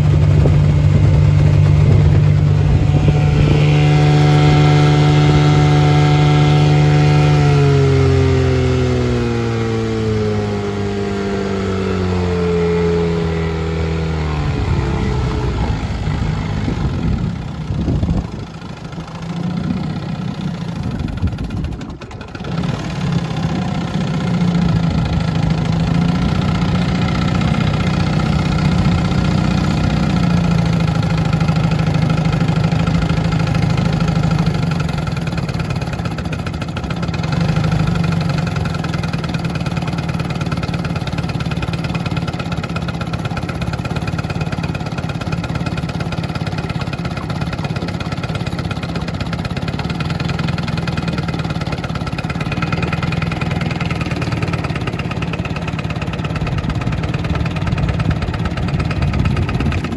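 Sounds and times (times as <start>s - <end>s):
outboard motor running: 0.0s - 59.9s.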